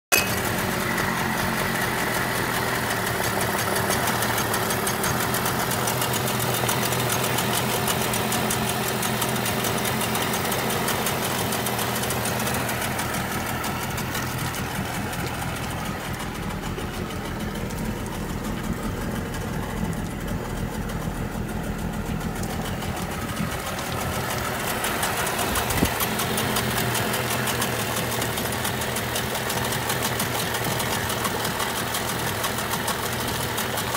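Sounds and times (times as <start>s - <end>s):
outboard engine running: 0.1s - 33.9s.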